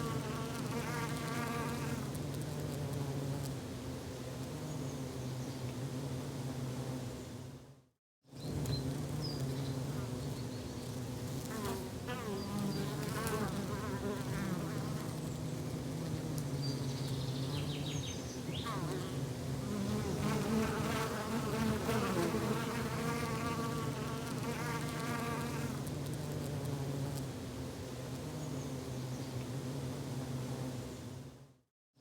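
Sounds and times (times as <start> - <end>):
insect buzzing: 0.0 - 7.5, 8.4 - 31.3.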